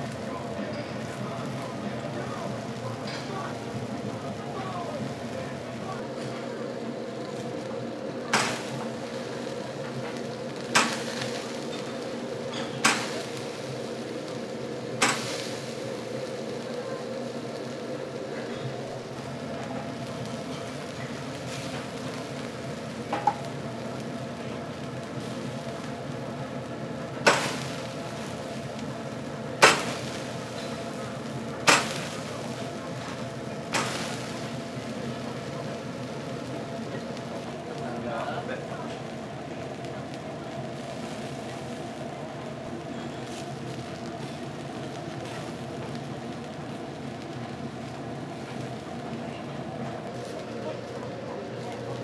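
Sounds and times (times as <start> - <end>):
machinery hum: 0.0 - 52.0
sharp sizzle bursts: 0.0 - 52.0
skewers cooking on grill: 0.0 - 52.0.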